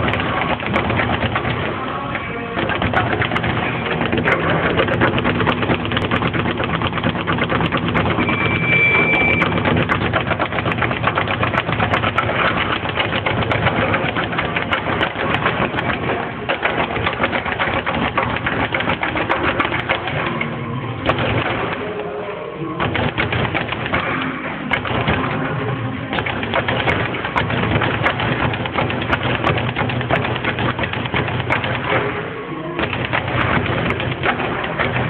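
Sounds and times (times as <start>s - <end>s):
speed bag being punched: 0.0s - 20.4s, 21.0s - 22.0s, 22.8s - 32.2s, 32.8s - 35.0s.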